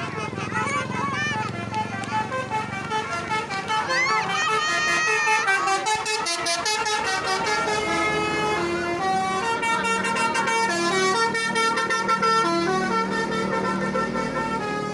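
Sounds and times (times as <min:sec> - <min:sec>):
multi-tone musical bus horn: 0:00.0 - 0:14.9.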